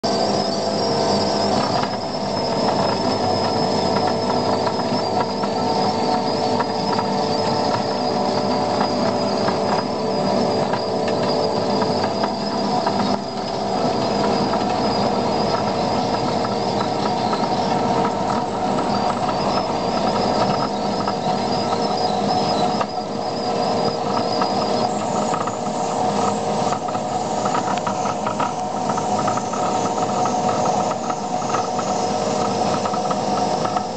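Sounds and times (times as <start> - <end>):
high hydraulic whine: 0.0 - 33.9
loader engine and hydraulic drone: 0.0 - 33.9
planer drum grinding asphalt: 0.0 - 33.9.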